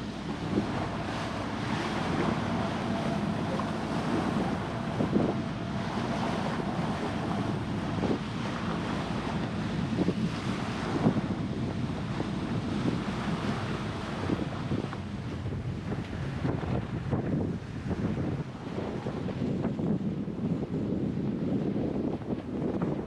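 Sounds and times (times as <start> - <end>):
sea washing: 0.0 - 23.0
wind buffeting microphone: 0.0 - 23.0.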